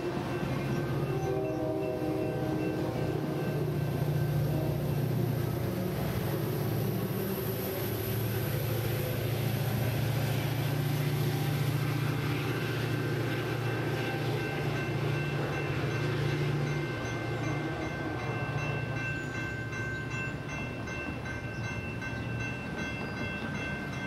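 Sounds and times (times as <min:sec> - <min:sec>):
diesel locomotive engine rumble: 0:00.0 - 0:24.0
train passing: 0:00.0 - 0:24.0.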